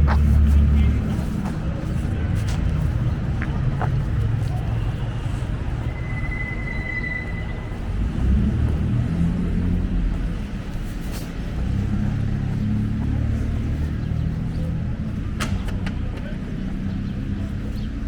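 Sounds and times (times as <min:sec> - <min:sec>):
low uneven rumble: 0:00.0 - 0:18.0.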